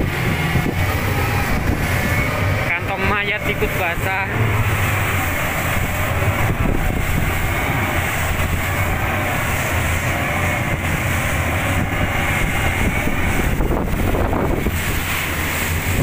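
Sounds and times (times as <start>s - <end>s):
outboard engines droning: 0.0s - 16.0s
water rushing against hull: 0.0s - 16.0s
wind rushing: 0.0s - 16.0s.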